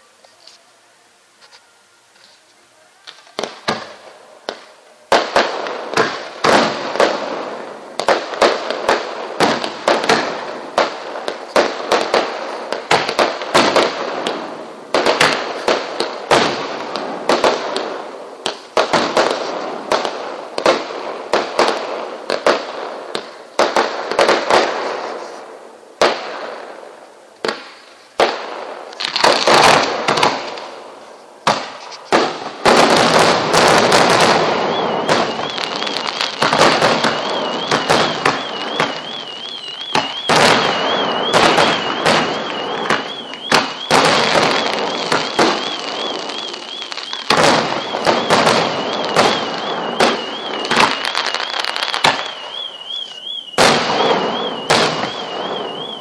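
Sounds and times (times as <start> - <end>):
fireworks bangs: 1.4 - 56.0.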